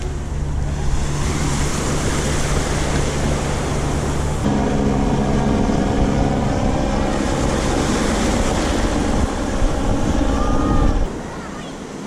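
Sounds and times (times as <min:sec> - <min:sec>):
engine drone: 0:00.0 - 0:11.2
wind on microphone: 0:00.0 - 0:11.3
sea surf: 0:00.0 - 0:12.0.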